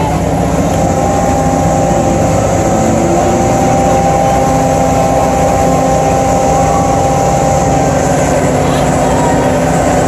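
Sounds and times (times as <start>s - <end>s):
constant high whine: 0.0s - 10.0s
ride machinery drone: 0.0s - 10.0s.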